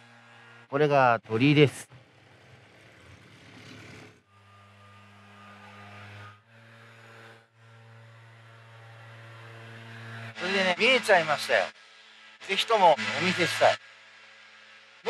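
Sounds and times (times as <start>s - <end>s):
low mechanical hum: 0.0s - 13.9s.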